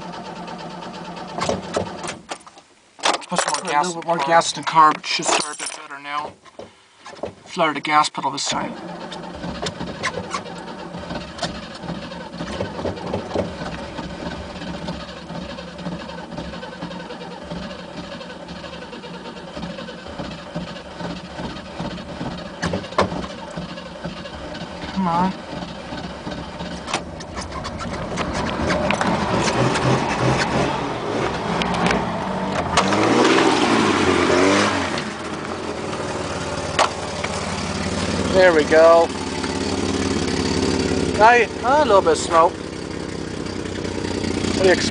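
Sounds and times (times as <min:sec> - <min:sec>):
starter cranking engine: 0:00.0 - 0:02.3, 0:03.4 - 0:44.9.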